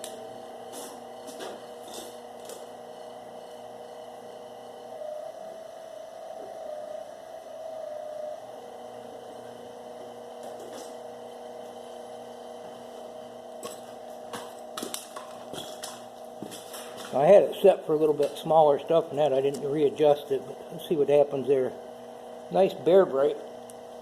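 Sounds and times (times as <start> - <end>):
wire stripping machine humming: 0.0 - 24.0.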